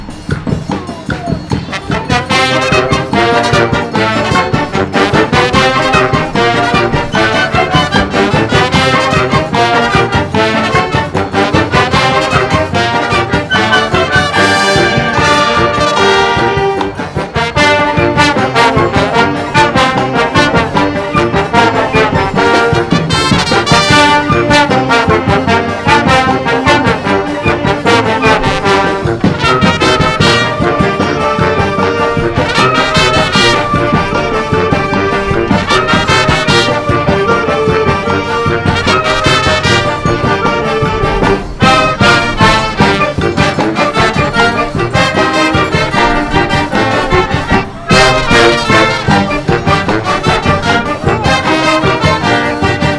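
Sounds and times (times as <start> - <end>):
brass band playing lively tune: 0.0 - 52.9.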